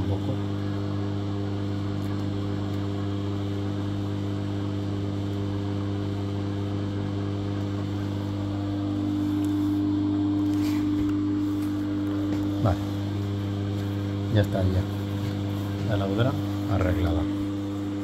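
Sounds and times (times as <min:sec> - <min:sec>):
washing machine spinning hum: 0:00.0 - 0:18.0.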